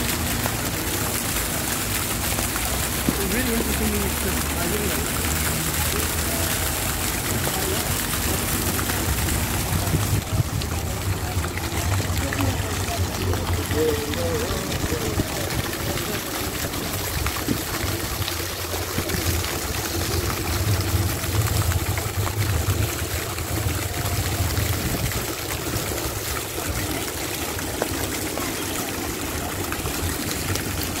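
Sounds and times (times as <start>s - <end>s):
fountain jets splashing into pool: 0.0s - 31.0s.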